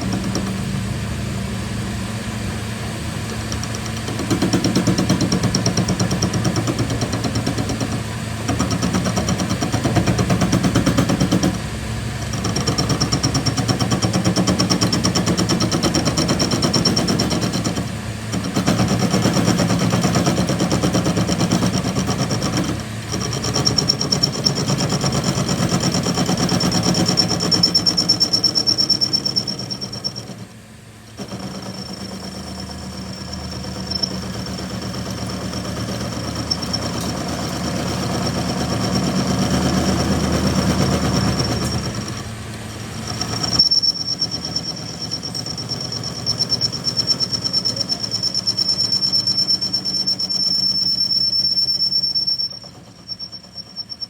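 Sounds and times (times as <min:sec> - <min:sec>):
machine humming and whining: 0:00.0 - 0:54.0.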